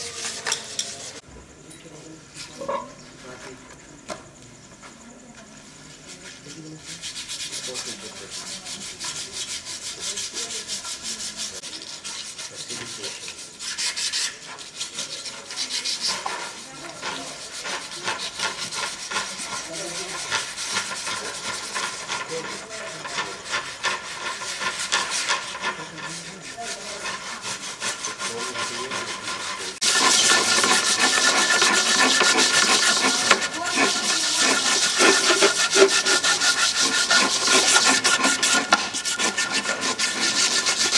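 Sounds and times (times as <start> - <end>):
hand tools scraping wood: 0.0 - 1.2, 6.0 - 40.9.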